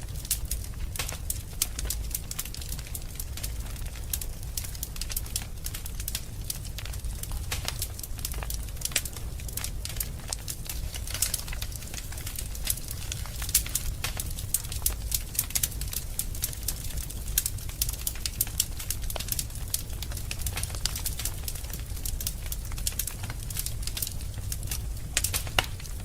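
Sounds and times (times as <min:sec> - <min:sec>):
fire crackling and popping: 0:00.0 - 0:26.0
fire low rumble: 0:00.0 - 0:26.0.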